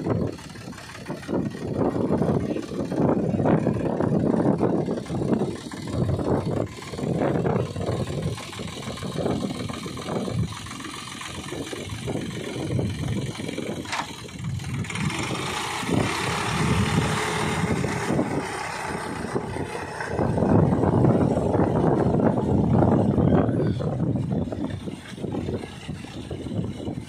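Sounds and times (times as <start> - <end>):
tractor diesel engine running: 0.0 - 27.0
wheels churning wet mud: 0.0 - 27.0.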